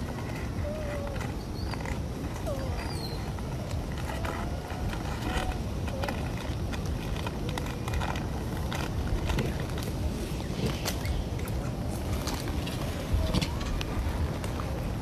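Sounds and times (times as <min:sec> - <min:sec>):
clicks and crackles: 0:00.0 - 0:15.0
faint squeaky glides: 0:00.0 - 0:15.0
low rumbling outdoor noise: 0:00.0 - 0:15.0.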